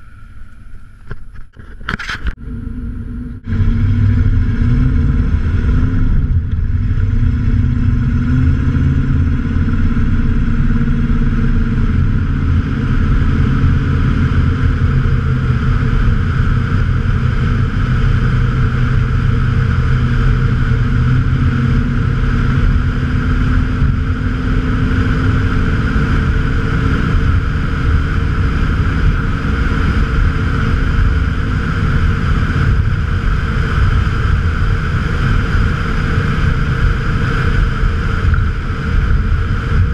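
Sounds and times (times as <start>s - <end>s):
loud engine exhaust drone: 0.0s - 39.9s.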